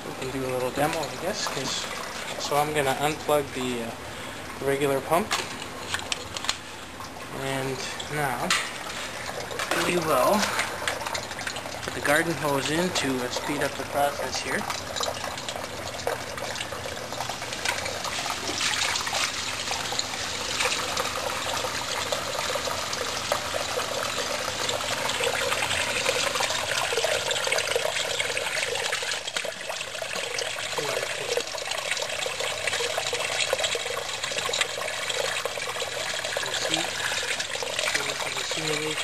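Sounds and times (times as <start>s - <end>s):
hose water running into pit: 0.0s - 39.0s.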